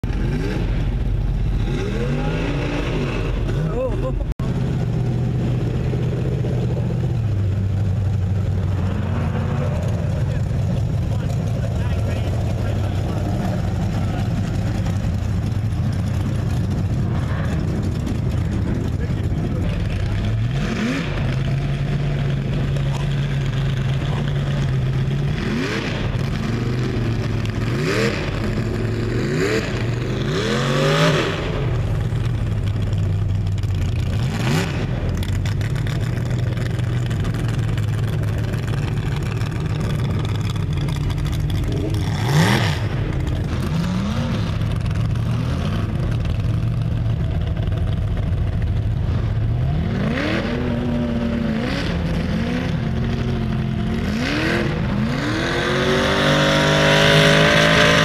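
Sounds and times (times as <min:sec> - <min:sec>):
low engine drone: 0:00.0 - 0:58.0
off-road engines revving: 0:00.0 - 0:58.0.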